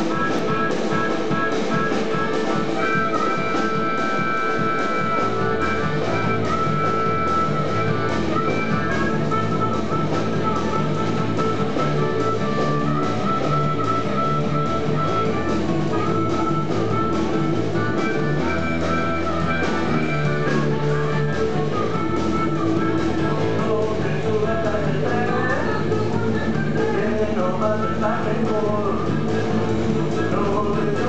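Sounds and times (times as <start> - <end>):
live blues-rock band playing: 0.0 - 31.0.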